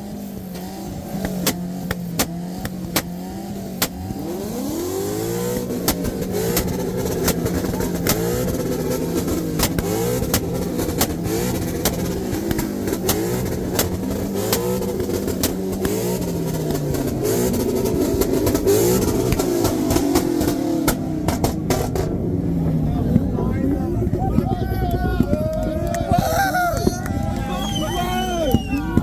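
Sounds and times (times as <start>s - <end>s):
engine revving: 0.0s - 24.5s
exhaust banging and popping: 0.0s - 29.0s.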